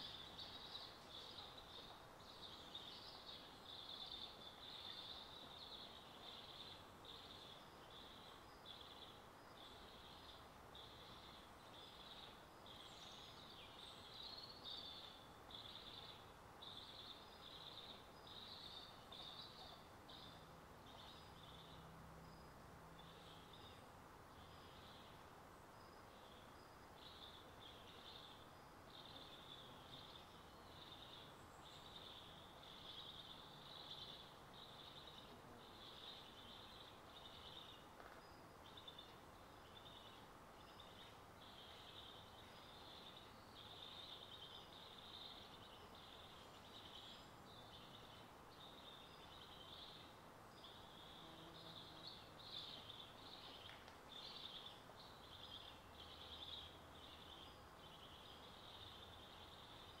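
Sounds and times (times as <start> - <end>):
low hiss: 0.0 - 60.0.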